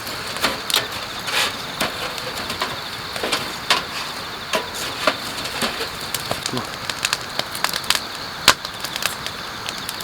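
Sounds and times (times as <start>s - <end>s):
crickets chirring: 0.0s - 10.0s
wood fire crackling and popping: 0.0s - 10.0s.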